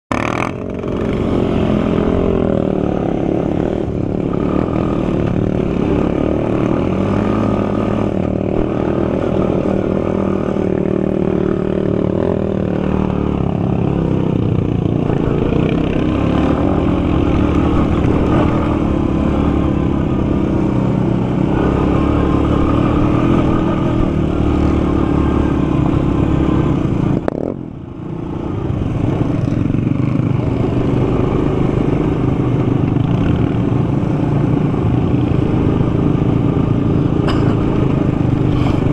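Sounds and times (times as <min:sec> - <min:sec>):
quad engine revving: 0:00.1 - 0:27.6, 0:28.3 - 0:38.9.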